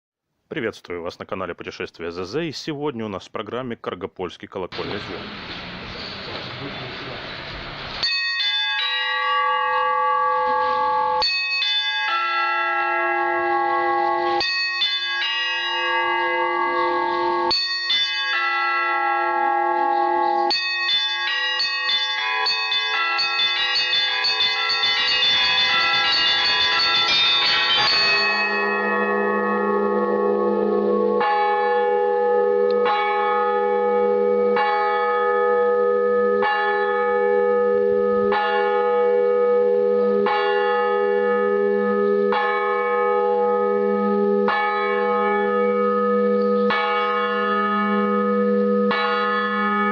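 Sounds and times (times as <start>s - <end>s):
deep church bell: 8.0s - 49.9s
small church bells ringing: 8.0s - 49.9s.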